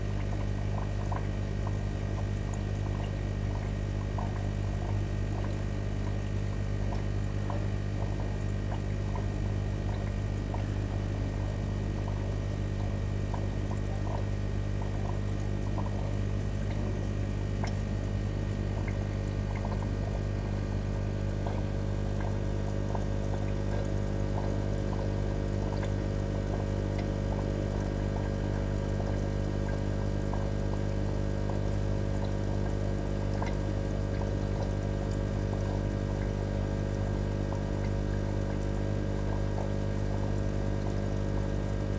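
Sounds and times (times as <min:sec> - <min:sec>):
aquarium pump humming: 0:00.0 - 0:41.9
water trickling: 0:00.1 - 0:41.9.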